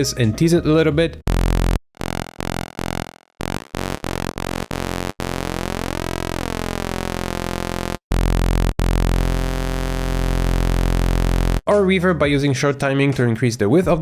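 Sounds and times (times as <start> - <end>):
synthesizer tones with delay: 0.0 - 11.6.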